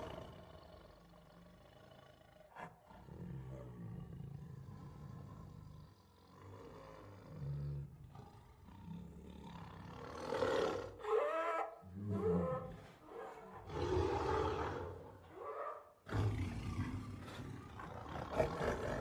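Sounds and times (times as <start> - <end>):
tiger roaring: 0.0 - 19.0.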